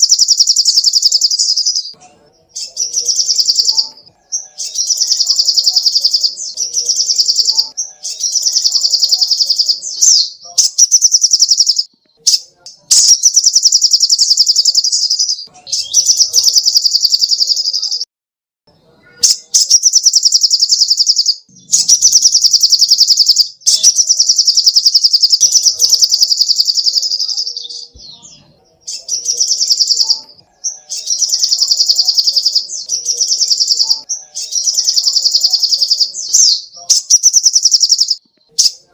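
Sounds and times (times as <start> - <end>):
bird chattering trills: 0.0 - 18.0, 19.1 - 38.9.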